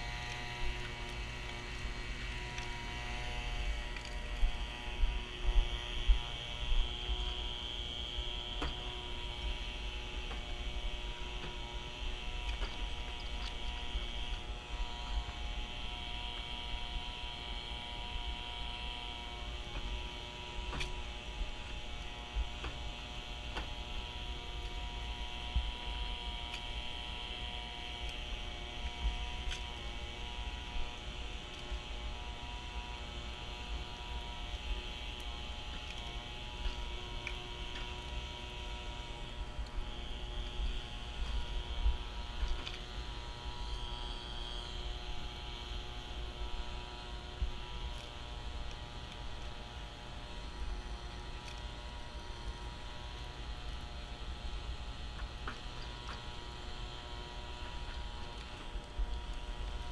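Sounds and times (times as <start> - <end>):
mechanical hum: 0.0 - 59.9.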